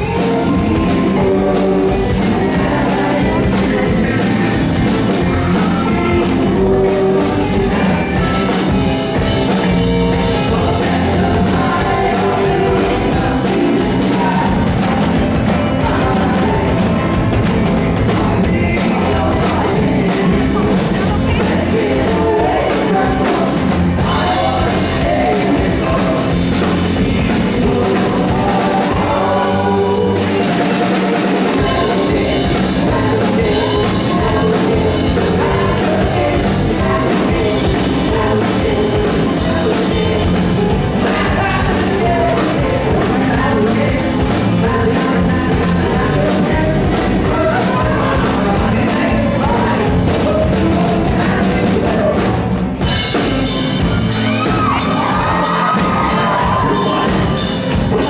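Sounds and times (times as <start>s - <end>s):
bass guitar: 0.0s - 58.0s
drums: 0.0s - 58.0s
electric guitar: 0.0s - 58.0s
keyboard: 0.0s - 58.0s
person singing: 0.0s - 58.0s.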